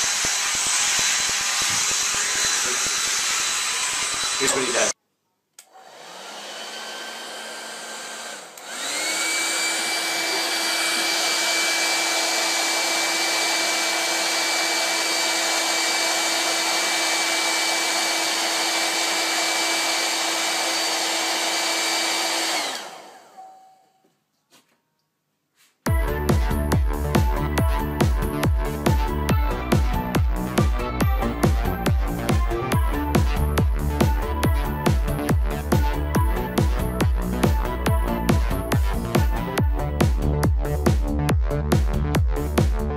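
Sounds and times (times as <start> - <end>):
hair dryer running: 0.0 - 5.0, 5.6 - 23.7, 25.9 - 40.1.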